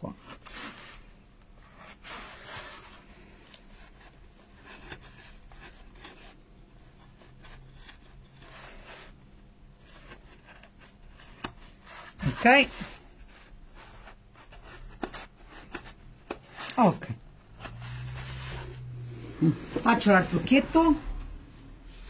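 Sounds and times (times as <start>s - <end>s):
faint scratching and rubbing: 0.1s - 22.0s.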